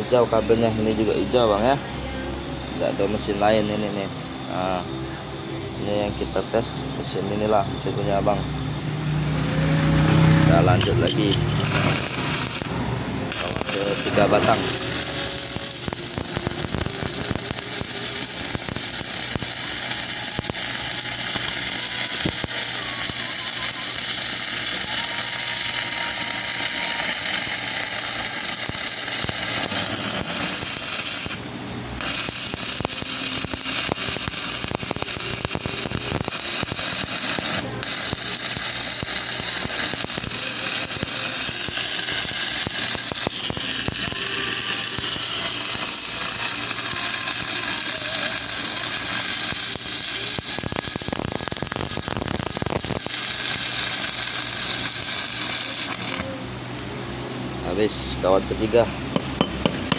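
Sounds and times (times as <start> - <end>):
welding arc crackling sizzle: 5.8 - 57.0, 57.6 - 59.9.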